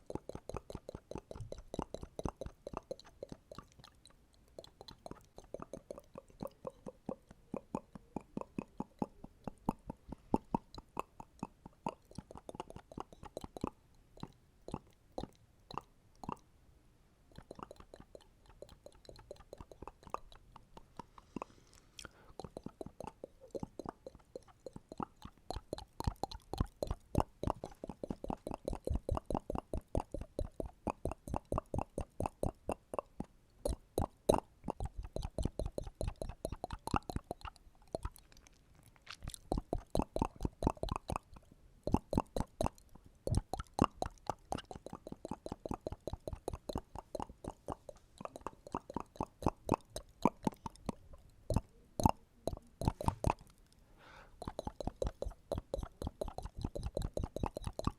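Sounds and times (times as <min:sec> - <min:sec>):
wet mouth clicks and pops: 0:00.0 - 0:16.4, 0:17.3 - 0:57.9.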